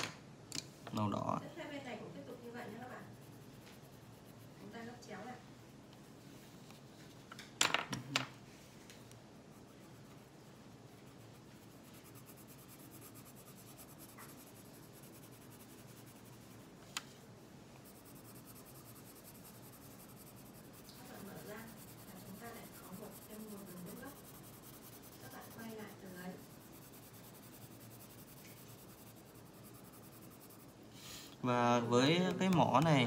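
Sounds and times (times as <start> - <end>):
pencil scratching on paper: 2.1 - 6.9, 9.1 - 30.9.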